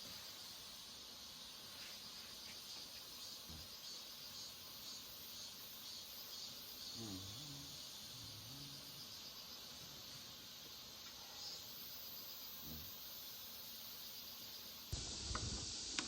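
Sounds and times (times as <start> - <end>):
night insects chirring: 0.0 - 16.0.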